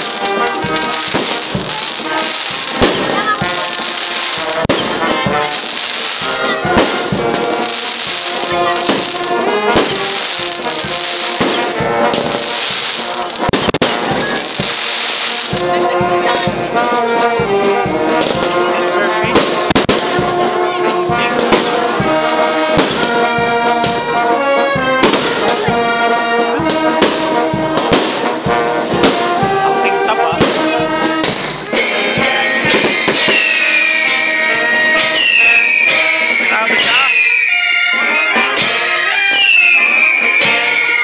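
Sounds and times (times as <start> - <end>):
whistling fireworks falling in pitch: 0.0 - 16.7, 18.2 - 41.0
fireworks banging: 0.0 - 41.0
loud brass music: 0.0 - 41.0.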